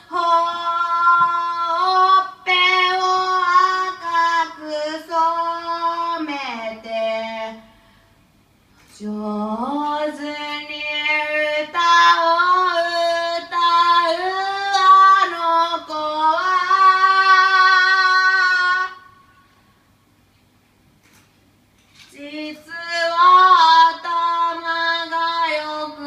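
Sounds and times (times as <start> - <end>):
person singing unaccompanied: 0.0 - 7.7, 8.9 - 19.2, 22.1 - 26.0.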